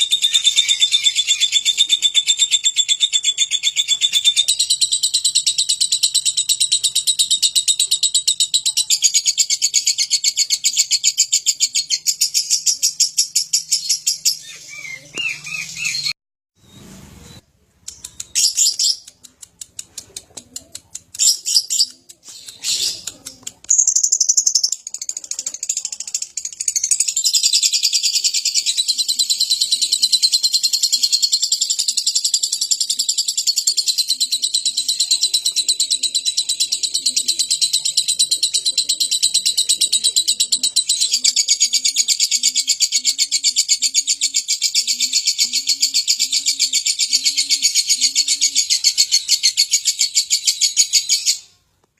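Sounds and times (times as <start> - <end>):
lovebird chirping and trilling: 0.0 - 19.2, 21.1 - 51.6.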